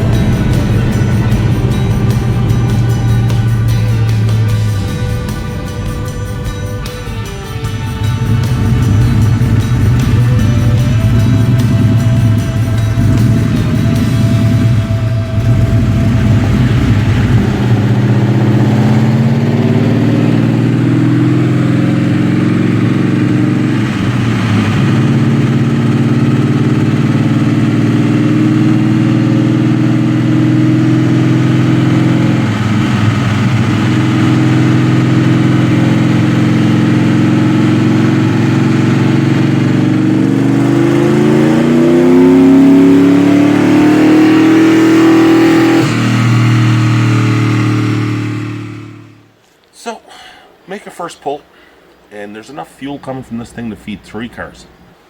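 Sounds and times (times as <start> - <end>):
car engine revving under load: 0.0 - 49.4.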